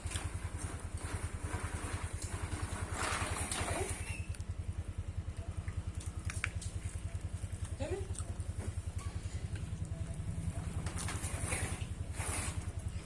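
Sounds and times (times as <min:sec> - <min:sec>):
small engine puttering: 0:00.0 - 0:13.0.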